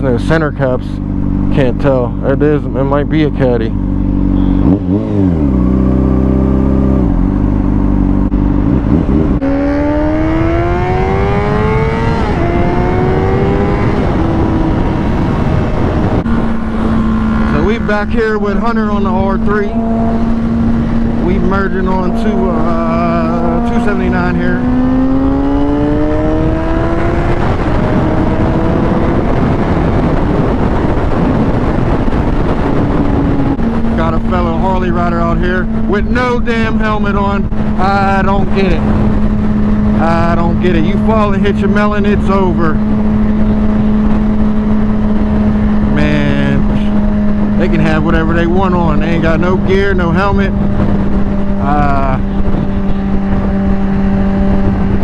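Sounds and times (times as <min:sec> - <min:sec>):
motorcycle engine revving: 0:00.0 - 0:55.0
steady wind noise: 0:00.0 - 0:55.0.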